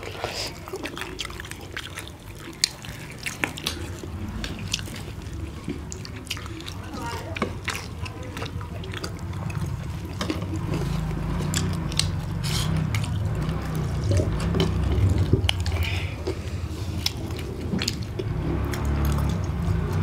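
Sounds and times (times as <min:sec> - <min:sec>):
lip smacks and chewing: 0:00.0 - 0:20.0
low steady hum: 0:00.0 - 0:20.0.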